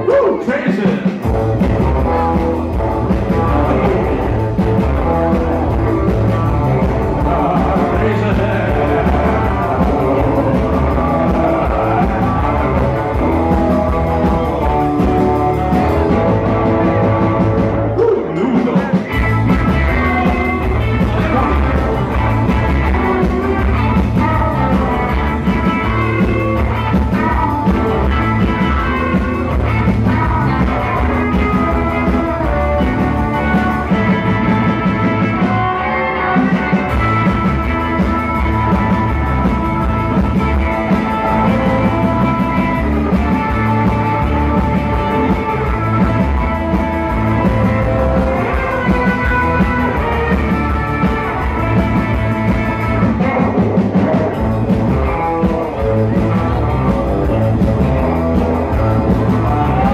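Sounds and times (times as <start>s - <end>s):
live rockabilly band playing: 0.0s - 59.9s.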